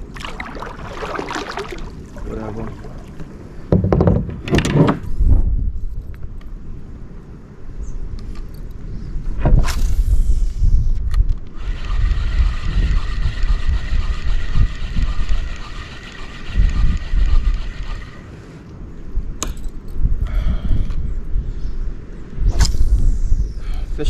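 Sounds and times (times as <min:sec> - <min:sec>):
wind buffeting microphone: 0:00.0 - 0:18.2, 0:18.9 - 0:24.0.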